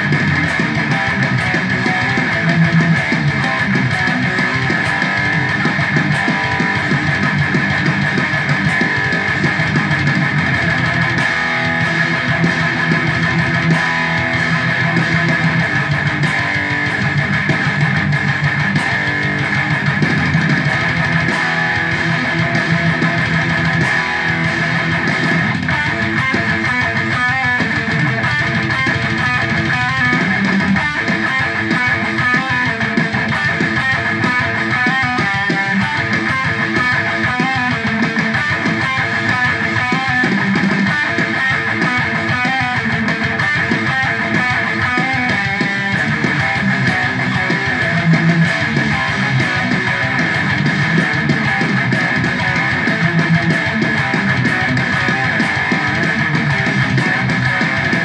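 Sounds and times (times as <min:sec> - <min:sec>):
electric guitar fast picked notes: 0:00.0 - 0:58.0.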